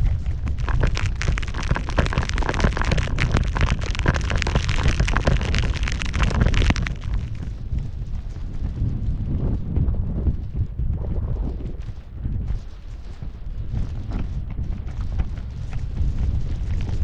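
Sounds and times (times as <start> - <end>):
snow crackling under skis: 0.0 - 17.0
wind buffeting microphone: 0.0 - 17.0.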